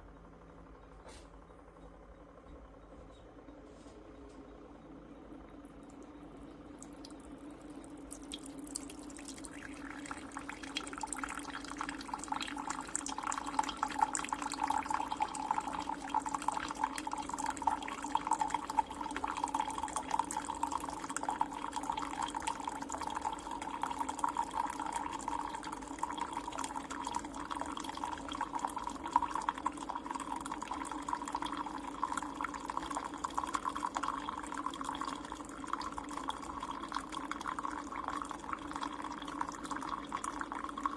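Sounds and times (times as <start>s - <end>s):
coffee trickling into a cup: 5.3s - 40.9s.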